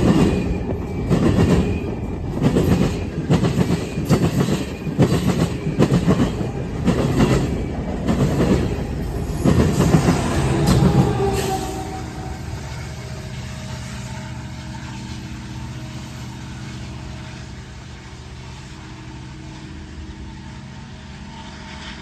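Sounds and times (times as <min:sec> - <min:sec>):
locomotive engine drone: 0:00.0 - 0:22.0
rail noise: 0:00.0 - 0:22.0.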